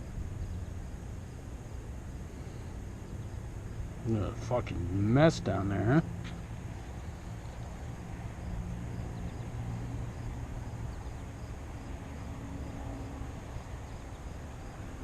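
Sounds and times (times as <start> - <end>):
outdoor low hum and rumble: 0.0 - 15.0.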